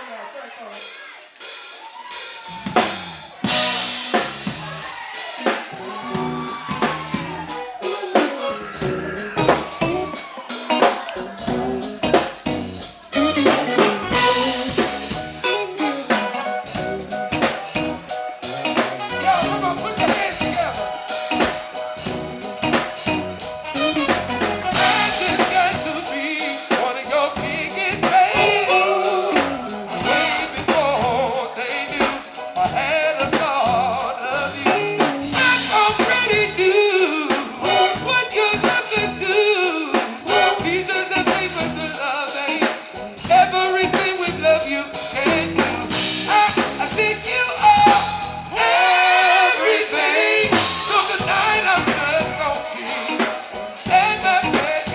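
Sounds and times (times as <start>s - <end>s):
live band playing: 0.7s - 54.9s.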